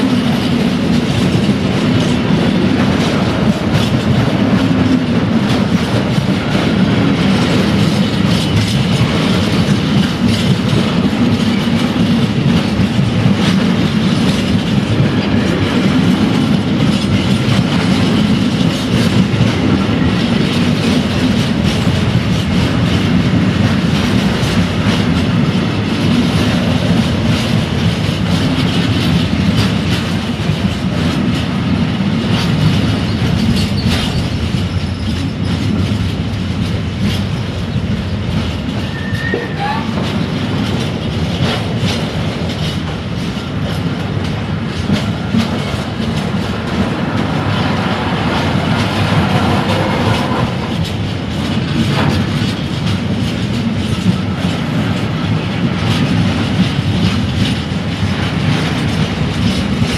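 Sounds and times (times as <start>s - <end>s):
steel wheels rumbling on rail: 0.0s - 59.9s
wheels clacking over track: 0.0s - 59.9s.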